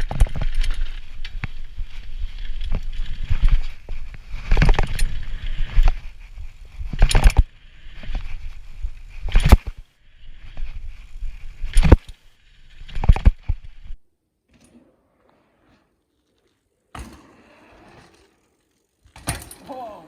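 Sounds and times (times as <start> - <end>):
bike rattling: 0.0 - 14.0, 15.6 - 20.0.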